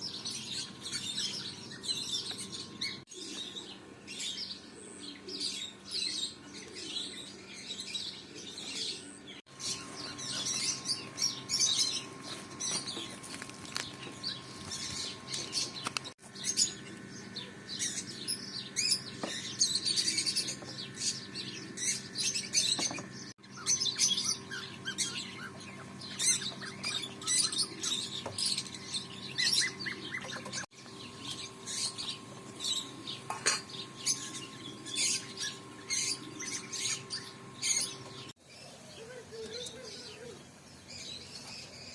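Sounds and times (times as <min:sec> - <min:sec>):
faint steady hum: 0:00.0 - 0:41.9
small birds chirping: 0:00.0 - 0:41.9.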